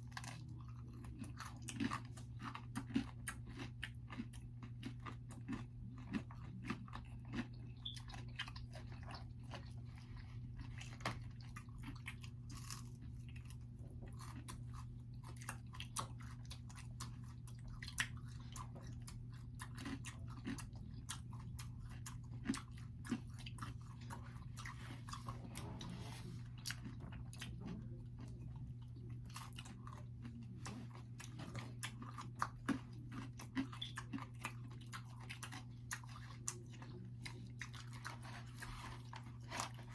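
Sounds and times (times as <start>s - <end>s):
chewing pizza: 0.0s - 39.9s
steady low hum: 0.0s - 39.9s.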